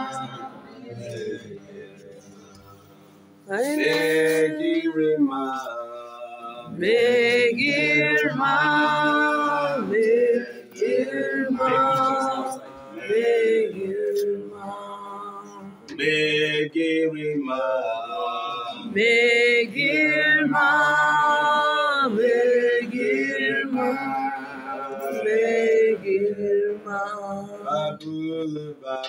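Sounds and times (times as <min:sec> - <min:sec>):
men singing together: 0:00.0 - 0:02.3, 0:03.5 - 0:29.0.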